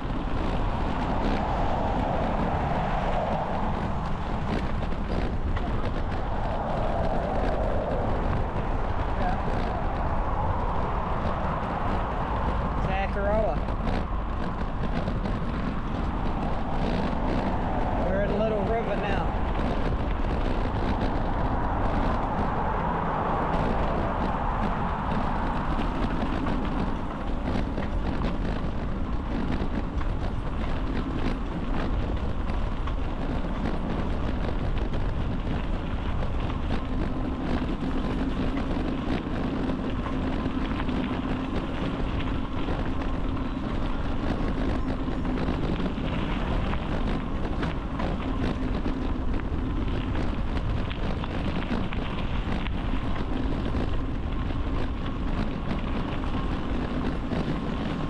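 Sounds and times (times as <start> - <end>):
low hum: 0.0 - 58.0
small clicks and rattles: 0.0 - 58.0
tyres rolling on trail: 0.0 - 58.0
wind buffeting microphone: 0.0 - 58.0.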